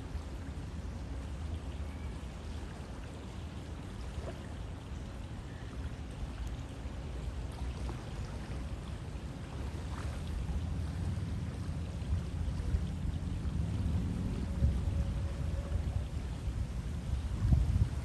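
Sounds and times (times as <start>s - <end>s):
faint splashes and trickles: 0.0s - 18.0s
river water flowing: 0.0s - 18.0s.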